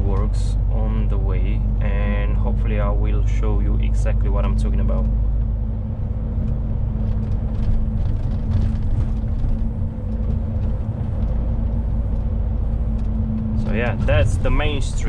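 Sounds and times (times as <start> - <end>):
lorry engine and road rumble: 0.0 - 15.0.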